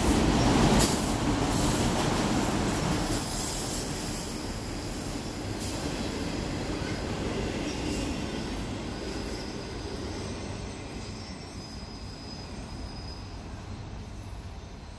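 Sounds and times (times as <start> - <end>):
freight train wheels on rail: 0.0 - 14.9.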